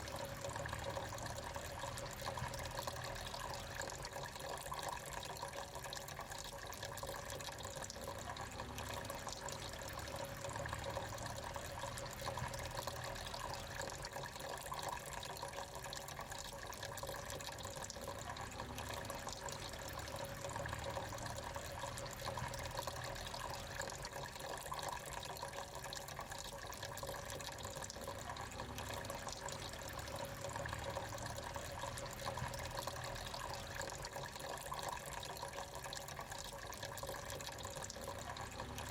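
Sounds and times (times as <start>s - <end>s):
fountain water trickling: 0.0s - 38.9s.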